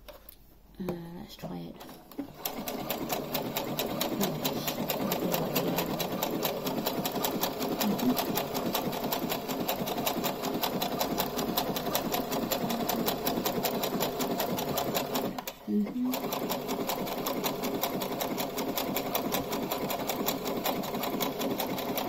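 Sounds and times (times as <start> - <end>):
sewing machine motor hum: 1.8 - 22.0.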